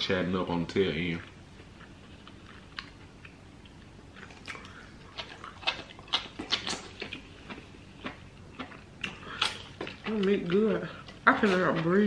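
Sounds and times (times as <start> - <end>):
wet chewing of meat: 1.2 - 11.5.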